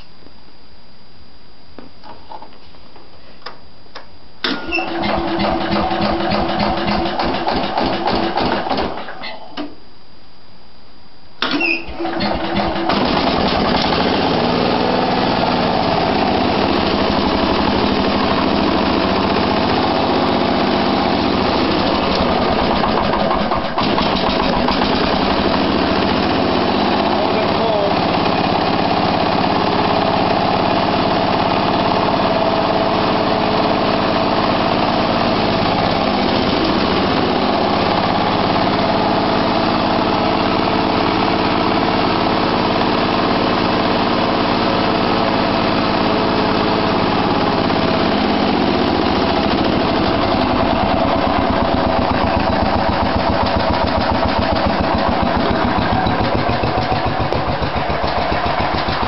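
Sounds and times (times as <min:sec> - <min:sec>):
small tractor engine running: 0:04.5 - 0:09.2, 0:11.9 - 0:59.0.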